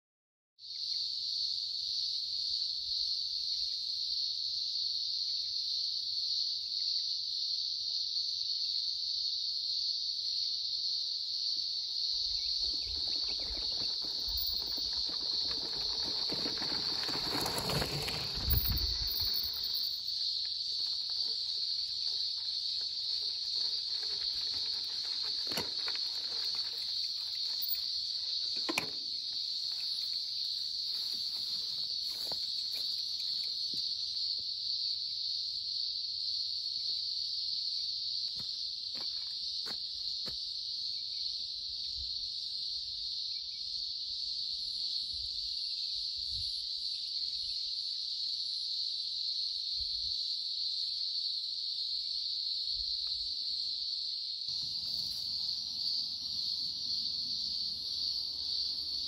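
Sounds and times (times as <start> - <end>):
insects droning: 0.6 - 59.0.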